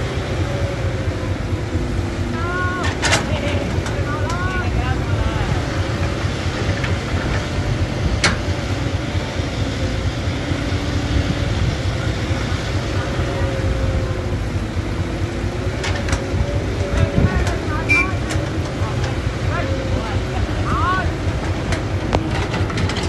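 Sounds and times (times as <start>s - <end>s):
excavator diesel engine rumbling: 0.0s - 23.0s.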